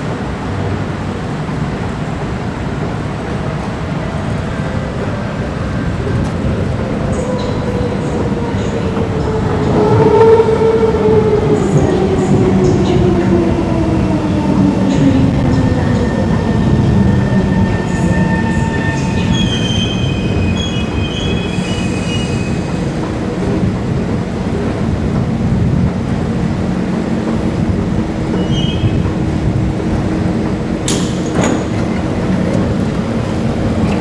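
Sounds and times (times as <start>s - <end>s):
wheels rumbling on rail: 0.0s - 34.0s.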